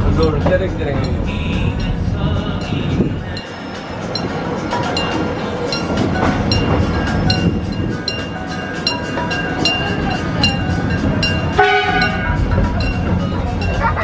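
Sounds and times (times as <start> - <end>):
crossing warning bell dinging: 0.0 - 14.0
train rumbling on rails: 0.0 - 14.0.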